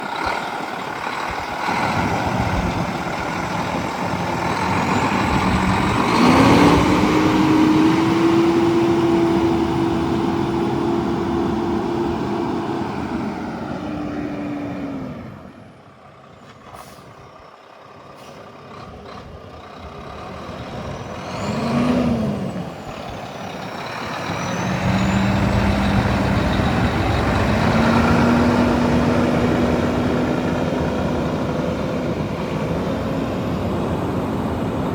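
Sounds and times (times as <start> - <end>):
heavy vehicle engine revving: 0.0 - 15.8, 16.6 - 34.9.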